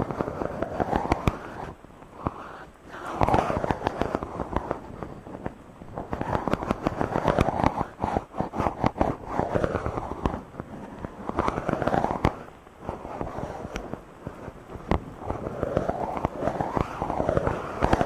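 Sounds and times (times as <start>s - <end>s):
microphone being rubbed: 0.0s - 18.0s.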